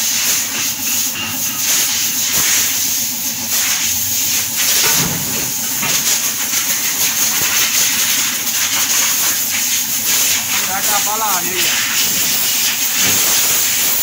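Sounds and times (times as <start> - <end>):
air blow gun hissing: 0.0 - 14.0.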